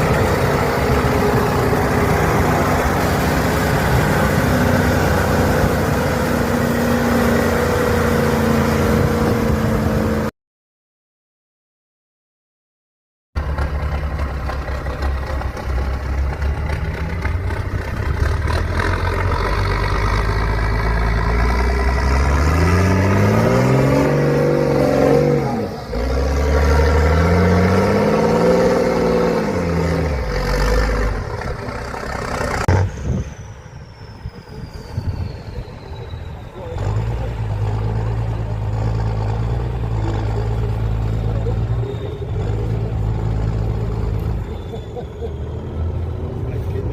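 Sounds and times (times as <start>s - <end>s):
truck engine revving: 0.0s - 10.3s, 13.4s - 46.9s.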